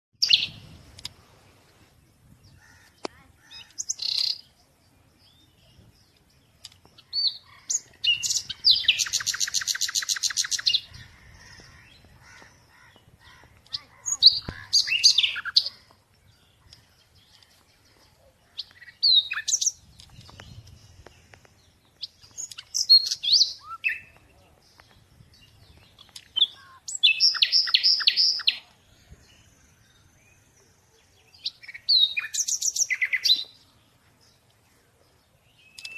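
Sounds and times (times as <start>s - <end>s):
songbirds chirping: 0.2s - 35.9s.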